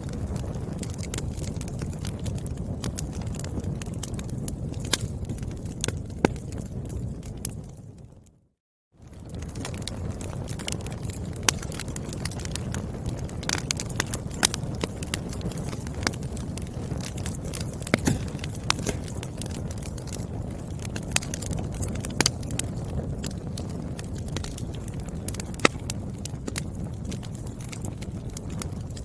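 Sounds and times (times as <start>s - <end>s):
firewood popping and snapping: 0.0s - 7.8s, 9.0s - 29.0s
low rumble of flames: 0.0s - 29.0s.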